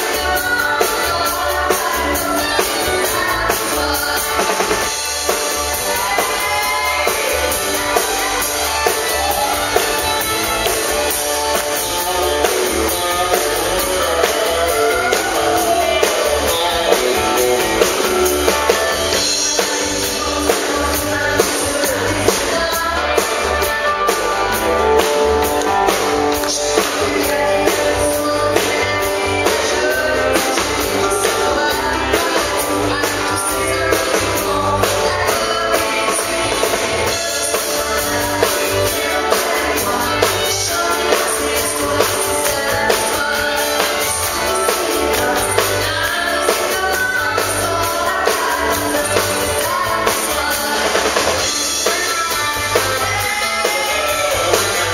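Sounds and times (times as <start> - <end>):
drum kit beat: 0.0 - 54.9
electric guitar: 0.0 - 54.9
woman singing: 0.0 - 54.9.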